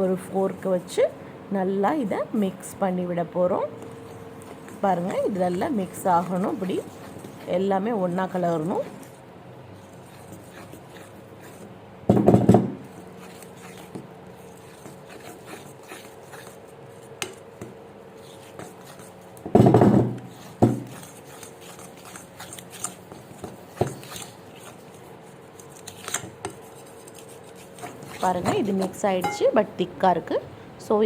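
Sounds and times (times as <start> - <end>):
fork stirring batter in a bowl: 2.2 - 11.8, 12.8 - 19.4, 20.2 - 30.4.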